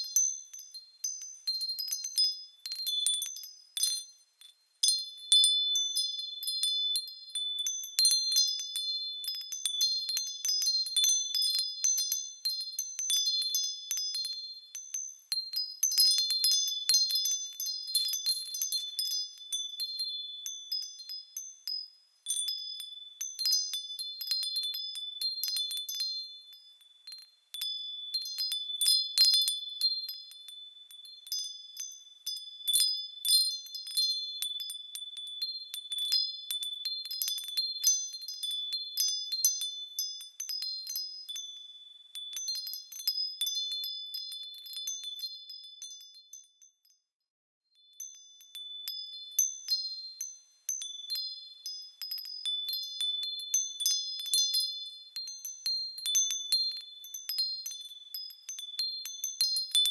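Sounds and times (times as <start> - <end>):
small metal bells ringing: 0.0 - 47.1, 47.7 - 59.9.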